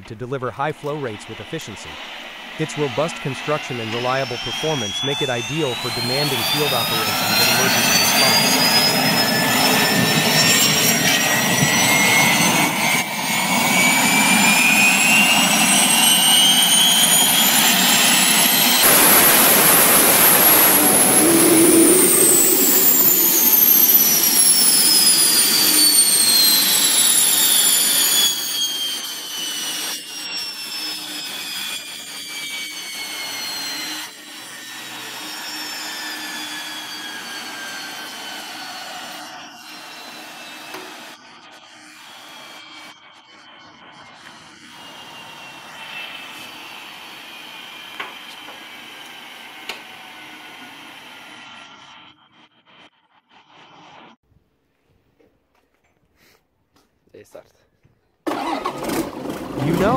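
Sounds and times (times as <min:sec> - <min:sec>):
rushing exhaust noise: 0:00.0 - 0:54.2, 0:58.3 - 0:59.9
small jet turbine whine: 0:00.0 - 0:54.2, 0:58.2 - 0:59.9.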